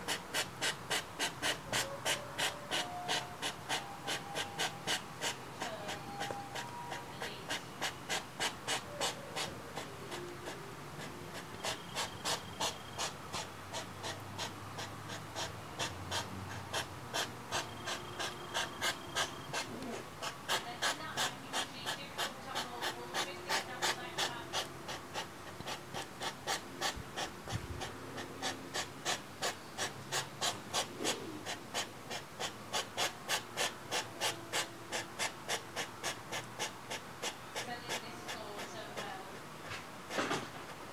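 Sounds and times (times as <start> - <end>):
hedgehogs puffing and snorting: 0.0 - 40.6.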